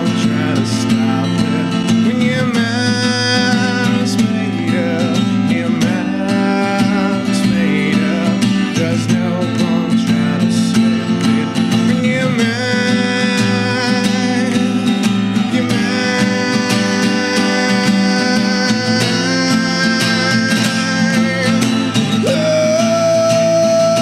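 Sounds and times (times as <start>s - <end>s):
acoustic guitar strumming: 0.0s - 24.0s
man singing: 0.0s - 24.0s.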